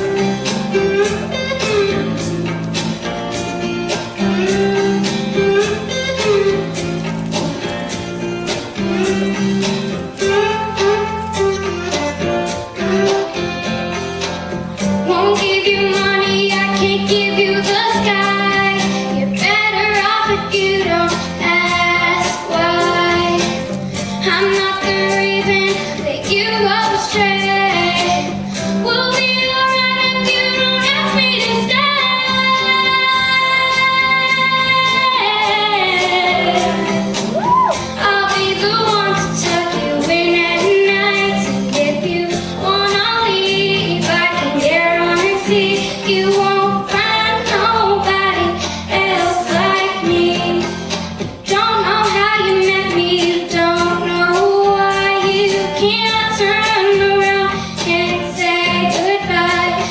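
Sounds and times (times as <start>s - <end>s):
backing track with steady beat: 0.0s - 59.9s
girl singing pop song: 0.0s - 59.9s.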